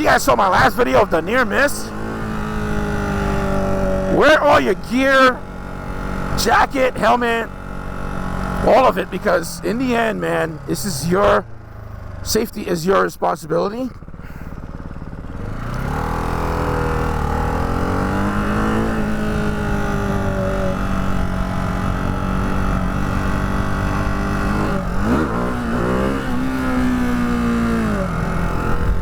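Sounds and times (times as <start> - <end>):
motorcycle engine revving: 0.0 - 12.4, 13.8 - 29.0.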